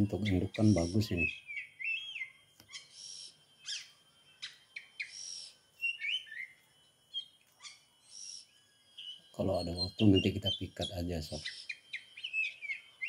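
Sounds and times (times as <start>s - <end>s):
bird chirps: 0.0s - 13.0s
bird rasping notes: 0.0s - 13.0s
bird whistled notes: 0.0s - 13.0s.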